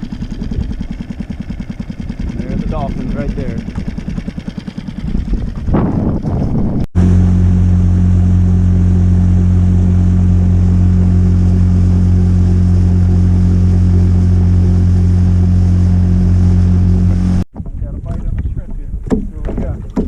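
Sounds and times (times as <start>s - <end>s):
low engine drone: 0.0s - 17.5s
uneven rumble: 0.0s - 20.0s.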